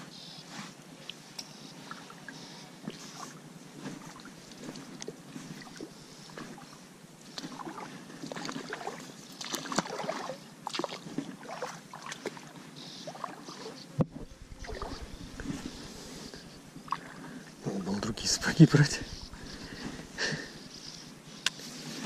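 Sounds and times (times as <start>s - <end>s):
water sloshing and splashing: 2.9s - 21.1s.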